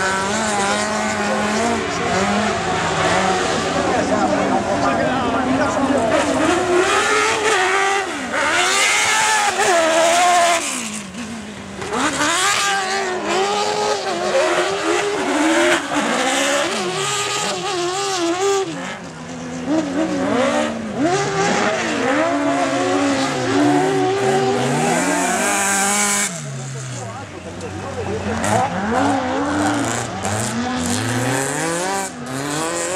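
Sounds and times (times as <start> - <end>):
race car engines revving: 0.0 - 32.9.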